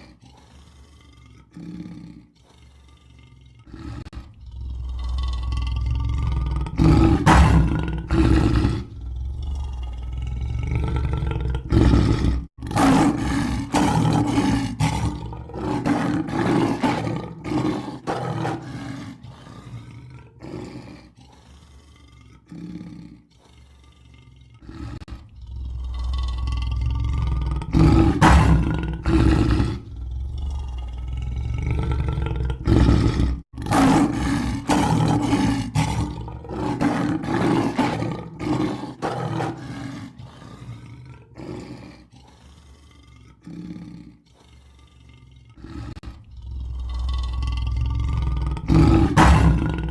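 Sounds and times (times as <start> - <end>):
lion roaring and growling: 0.0 - 49.9.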